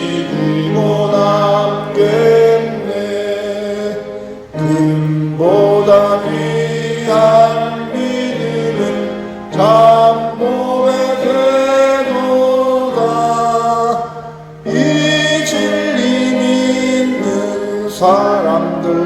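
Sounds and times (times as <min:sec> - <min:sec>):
congregation singing a hymn: 0:00.0 - 0:19.0.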